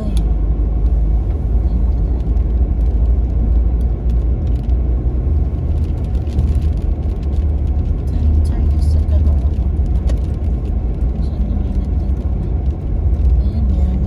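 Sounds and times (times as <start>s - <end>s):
car engine and tyres on snow: 0.0s - 14.0s.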